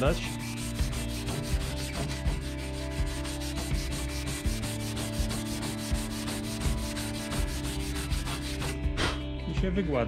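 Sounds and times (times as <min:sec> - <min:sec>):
abrasive pad scratching metal: 0:00.0 - 0:08.8.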